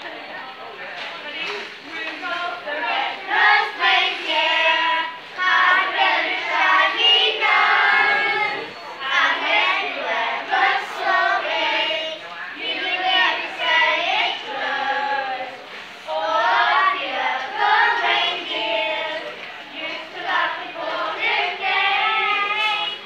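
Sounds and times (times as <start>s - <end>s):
children's choir singing: 1.8s - 23.0s.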